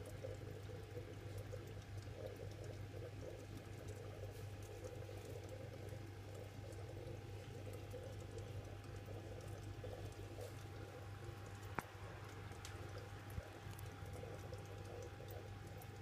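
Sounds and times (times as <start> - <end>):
low filter hum: 0.0 - 16.0
water trickling and bubbling: 0.0 - 16.0.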